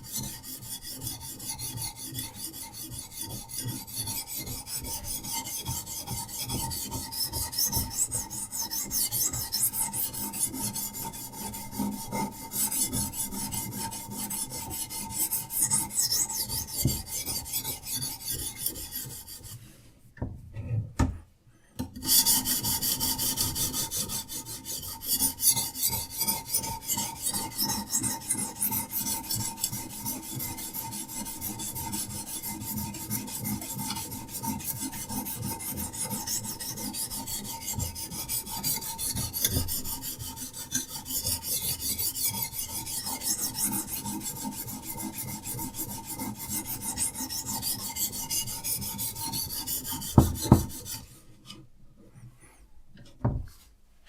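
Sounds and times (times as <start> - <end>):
sharpening stone rasping on knife: 0.0 - 19.6, 21.9 - 51.1.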